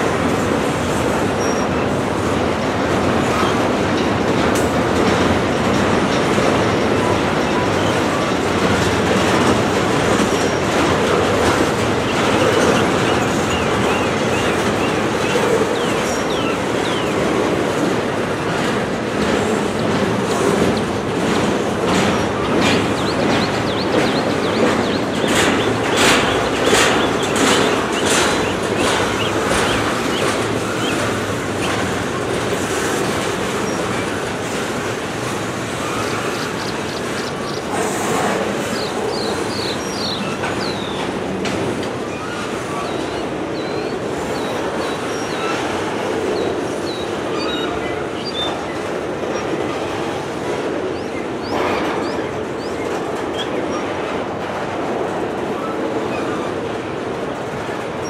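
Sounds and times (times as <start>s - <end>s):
steel wheels on rails: 0.0s - 58.0s.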